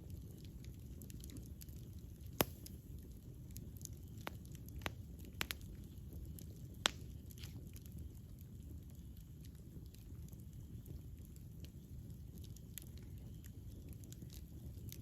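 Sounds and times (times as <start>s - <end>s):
flames rumbling: 0.0s - 15.0s
wood fire crackling: 0.0s - 15.0s.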